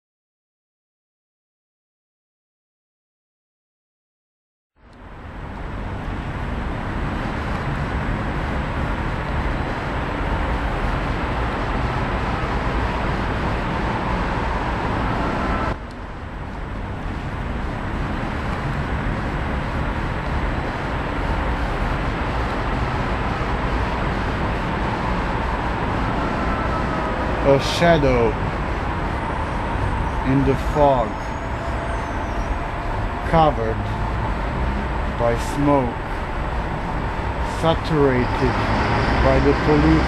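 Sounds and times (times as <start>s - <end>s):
city traffic hum: 4.8s - 40.0s.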